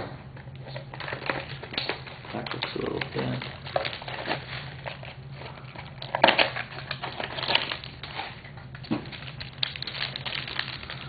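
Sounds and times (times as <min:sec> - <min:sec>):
wrapper crinkling and tearing: 0:00.6 - 0:11.0.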